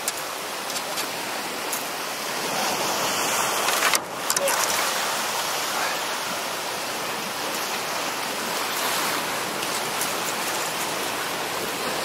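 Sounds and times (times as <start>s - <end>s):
sea surf washing over rocks: 0.0s - 12.0s.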